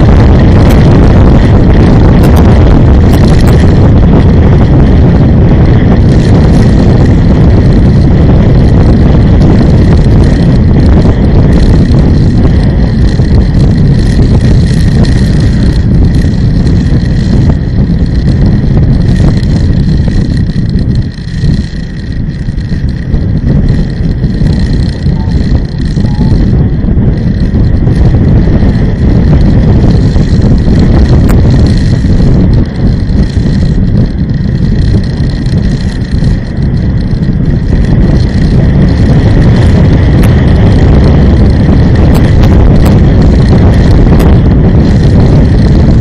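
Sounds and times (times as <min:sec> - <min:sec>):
vehicle road and engine rumble: 0:00.0 - 0:46.0
wind on microphone: 0:00.0 - 0:46.0.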